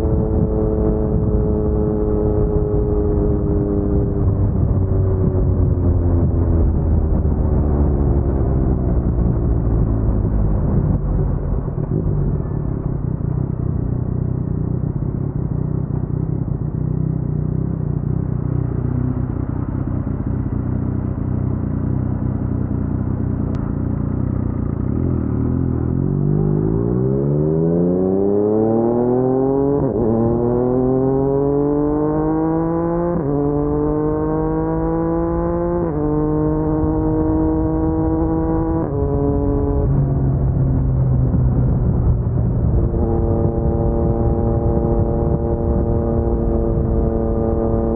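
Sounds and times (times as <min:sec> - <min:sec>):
motorcycle engine rumbling and revving: 0:00.0 - 0:47.9.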